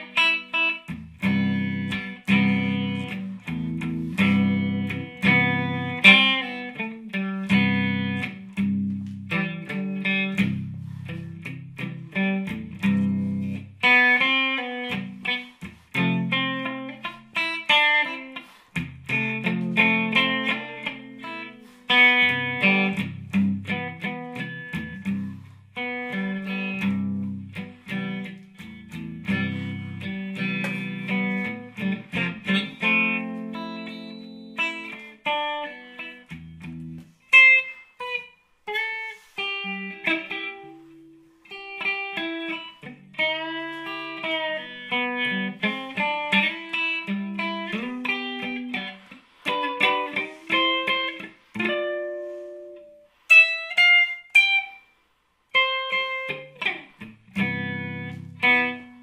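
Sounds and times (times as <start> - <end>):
plucked guitar: 0.0 - 54.9, 55.5 - 59.0.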